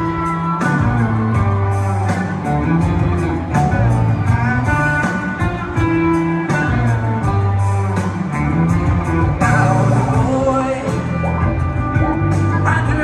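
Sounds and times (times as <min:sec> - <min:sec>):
live country band playing: 0:00.0 - 0:13.0.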